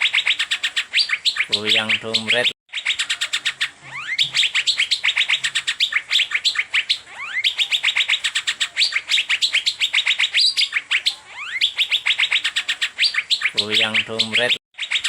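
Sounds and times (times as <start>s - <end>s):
bird chirping rapidly: 0.0s - 15.0s.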